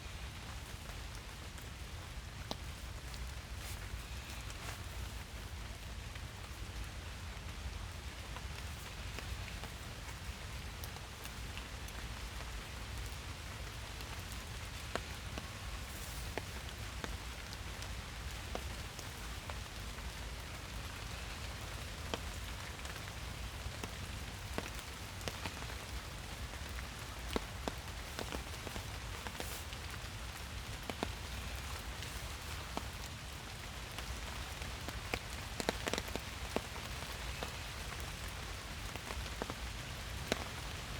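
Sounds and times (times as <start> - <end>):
raindrops tapping surfaces: 0.0 - 40.9
steady rain hiss: 0.0 - 40.9.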